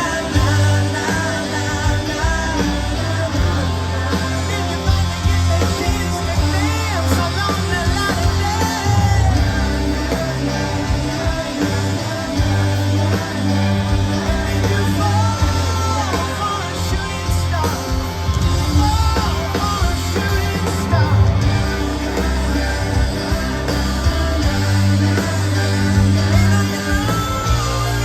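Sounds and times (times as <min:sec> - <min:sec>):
held bass notes: 0:00.0 - 0:28.0
live rock band playing: 0:00.0 - 0:28.0
person singing: 0:00.0 - 0:28.0.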